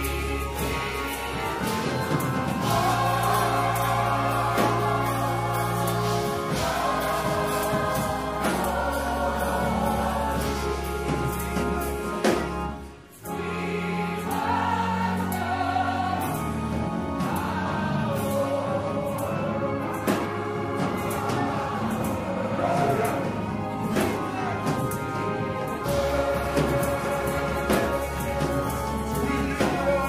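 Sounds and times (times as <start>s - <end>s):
choir singing gospel music: 0.0s - 30.0s
organ and keyboards: 0.0s - 30.0s.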